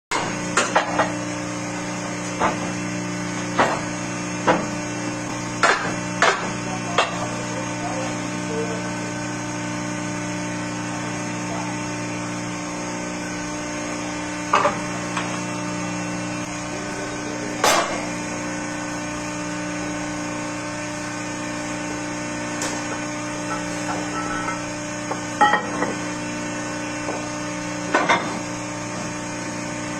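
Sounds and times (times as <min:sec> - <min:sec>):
machine hum: 0:00.1 - 0:29.9.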